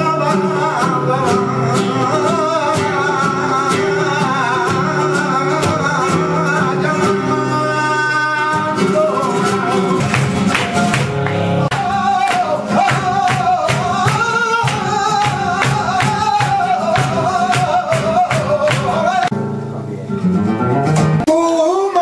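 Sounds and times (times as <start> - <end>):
man singing ornamented line: 0.0 - 10.4, 11.6 - 19.4, 21.2 - 22.0
flamenco guitar: 0.0 - 22.0.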